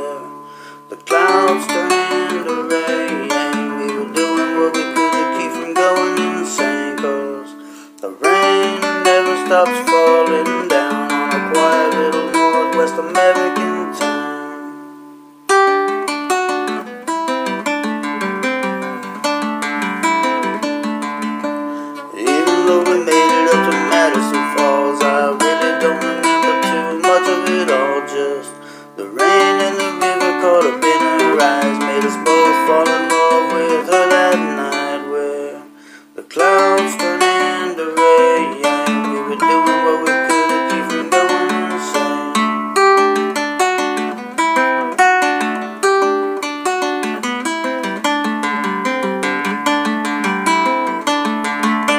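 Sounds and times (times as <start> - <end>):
acoustic guitar playing: 0.0 - 51.9.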